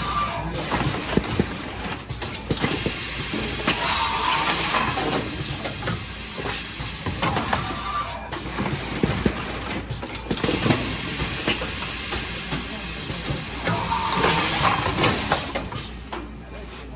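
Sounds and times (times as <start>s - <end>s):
pneumatic air hiss: 0.0s - 16.2s
machine clicking and clatter: 0.5s - 15.9s.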